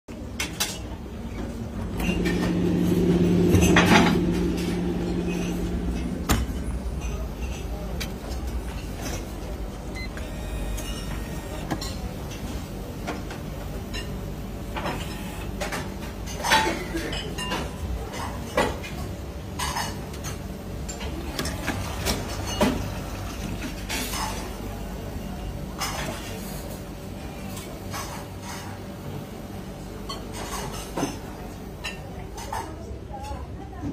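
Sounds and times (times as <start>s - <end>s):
low mechanical hum: 0.1s - 33.9s.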